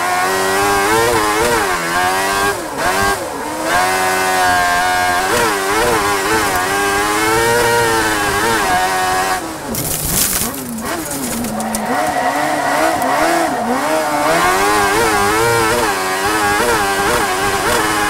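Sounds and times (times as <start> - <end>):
race car engine revving high: 0.0 - 9.7, 10.5 - 18.0.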